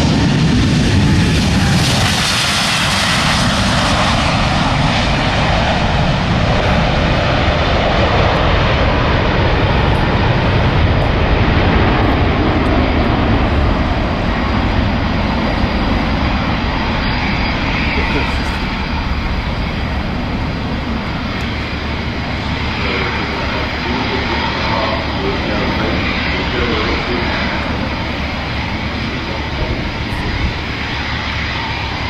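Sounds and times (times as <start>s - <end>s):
jet engines at takeoff: 0.0s - 32.0s.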